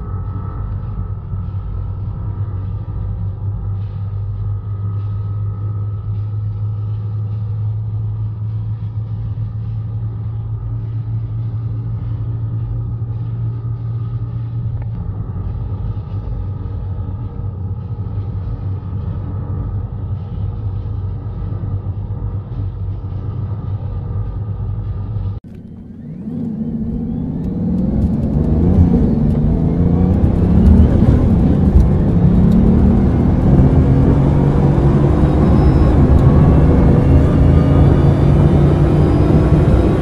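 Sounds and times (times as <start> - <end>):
car engine drone: 0.0 - 40.0
road and wind noise: 0.0 - 40.0.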